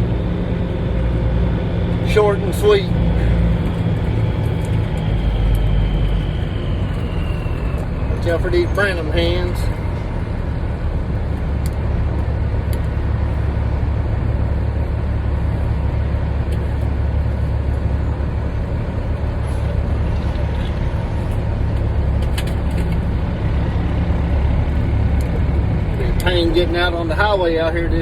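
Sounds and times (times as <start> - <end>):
diesel truck engine rumble: 0.0 - 28.0.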